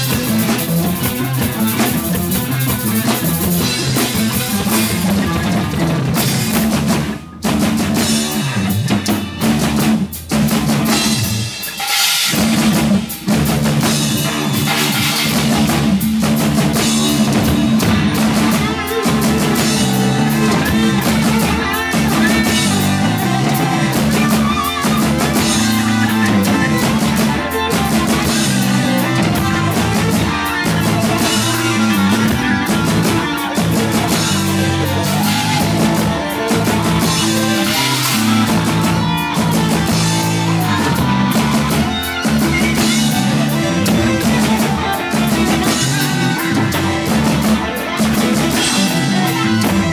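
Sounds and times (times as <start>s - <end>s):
heavy bass drum: 0.0s - 49.9s
rock band playing live: 0.0s - 49.9s.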